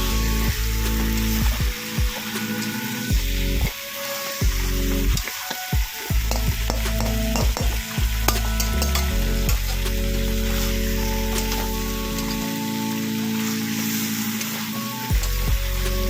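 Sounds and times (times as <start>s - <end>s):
curry sizzling in a pan: 2.2s - 15.8s.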